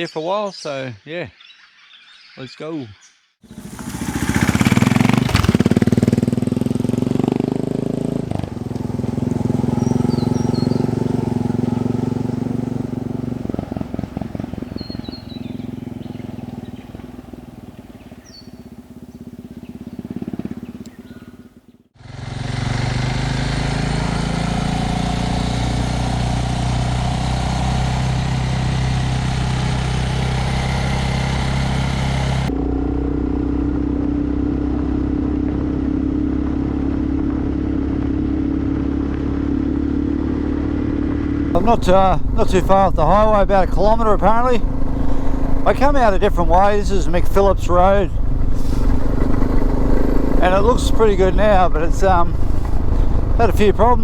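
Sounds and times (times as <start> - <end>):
motorcycle engine riding away: 3.4 - 54.0.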